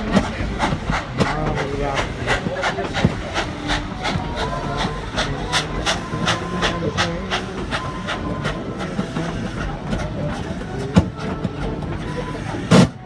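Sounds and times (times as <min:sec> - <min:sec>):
moving train rumbling: 0:00.0 - 0:13.0
steam locomotive chuffing: 0:00.0 - 0:13.0.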